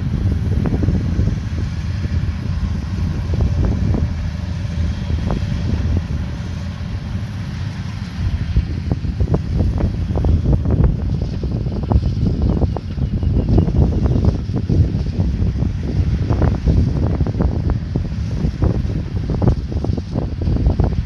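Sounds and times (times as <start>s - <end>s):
combine harvester engine rumbling: 0.0s - 21.0s.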